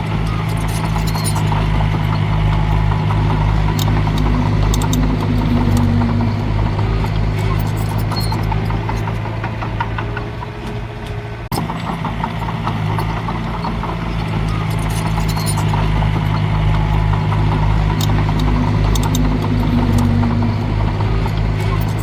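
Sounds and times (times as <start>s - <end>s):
heavy diesel engine running: 0.0s - 22.0s
light rattling: 0.0s - 22.0s.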